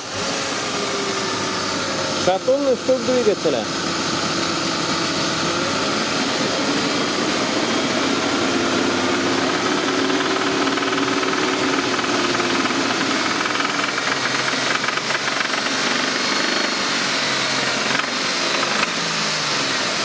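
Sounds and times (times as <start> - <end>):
engine running with rod knock: 1.4 - 20.0.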